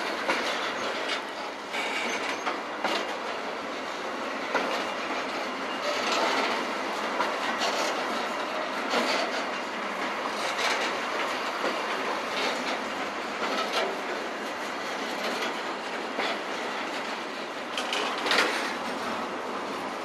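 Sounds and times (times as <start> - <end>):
clacks over rail joints: 0.0 - 20.0
wheels rumbling on rail: 0.0 - 20.0.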